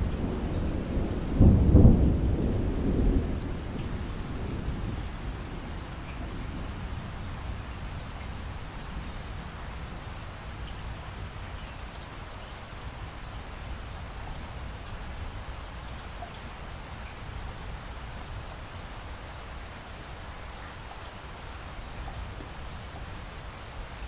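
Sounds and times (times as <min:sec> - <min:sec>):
steady rainfall hiss: 0:00.0 - 0:24.0.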